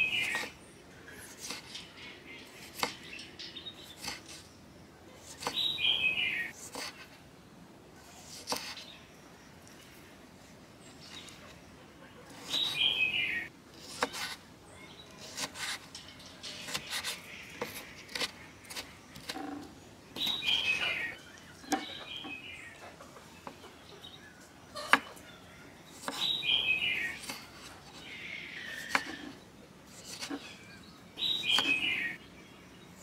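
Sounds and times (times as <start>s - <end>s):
bird chirping: 0.0s - 6.6s, 10.8s - 15.3s, 15.9s - 33.0s.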